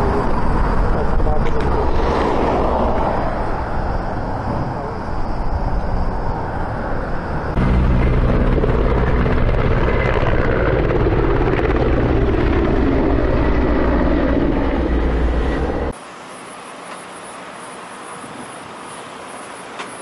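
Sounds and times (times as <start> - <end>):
helicopter flying low overhead: 0.0 - 20.0
roadside background: 0.0 - 20.0.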